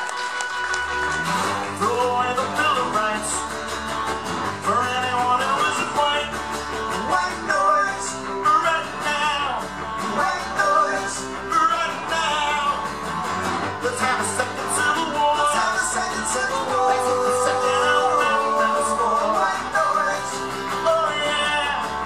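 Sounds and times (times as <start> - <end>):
strummed guitars: 0.0 - 22.0
man singing lead: 1.4 - 3.5, 4.5 - 13.0, 13.6 - 22.0.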